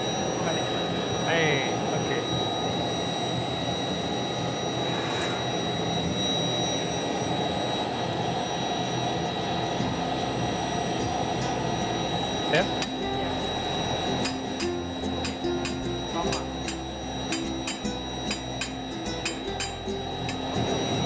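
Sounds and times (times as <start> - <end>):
faint high whine: 0.0 - 21.0
furnace burners roaring: 0.0 - 21.0.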